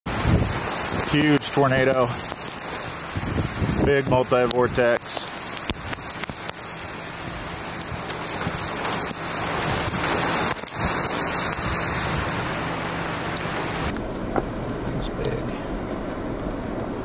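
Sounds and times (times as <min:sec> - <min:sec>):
steady rain falling: 0:00.1 - 0:17.0.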